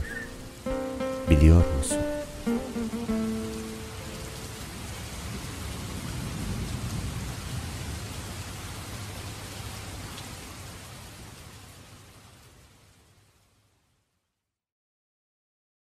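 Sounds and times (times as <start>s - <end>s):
steady rain falling: 0.0s - 14.5s.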